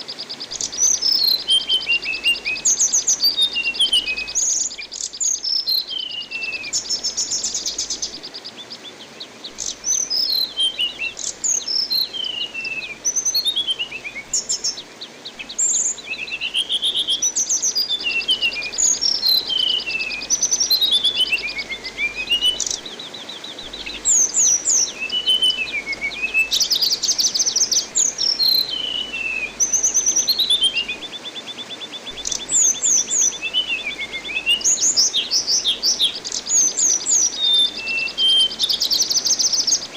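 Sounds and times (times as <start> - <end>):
thrush singing trills and whistles: 0.0 - 8.4, 9.5 - 39.9
running water hiss: 0.0 - 39.9.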